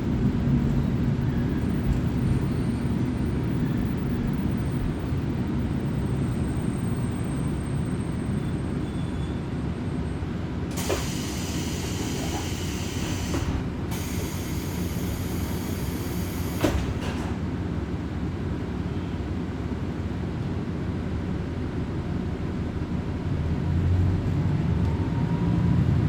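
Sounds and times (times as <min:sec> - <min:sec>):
railcar engine and wheel rumble: 0:00.0 - 0:26.0.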